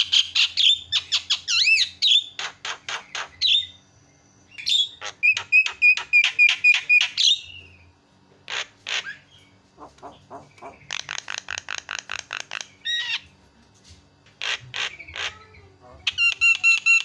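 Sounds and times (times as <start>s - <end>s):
myna bird calling: 0.0s - 13.4s, 14.3s - 17.0s.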